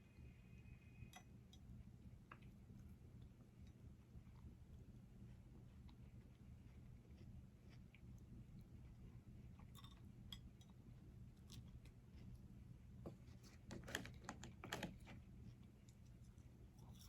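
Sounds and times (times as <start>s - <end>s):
clicks and crackles of eating food: 1.0s - 17.0s.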